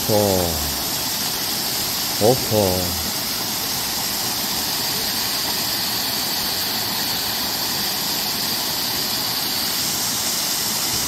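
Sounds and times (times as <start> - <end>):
water rushing over rocky waterfall: 0.0 - 11.0.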